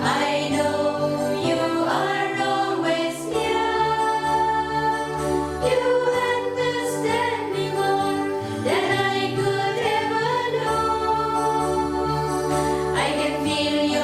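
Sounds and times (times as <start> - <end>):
sustained keyboard accompaniment: 0.0 - 14.0
voices singing a hymn: 0.0 - 14.0.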